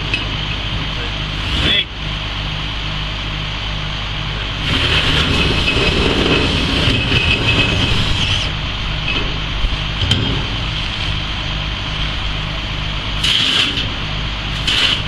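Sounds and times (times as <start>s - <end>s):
heavy machinery humming: 0.0s - 15.0s
high whine: 0.0s - 15.0s.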